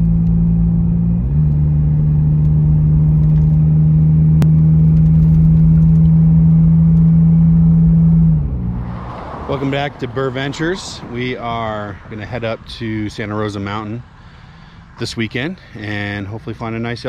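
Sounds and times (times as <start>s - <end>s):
car engine droning: 0.0s - 17.0s
tyre and road rumble: 0.0s - 17.0s.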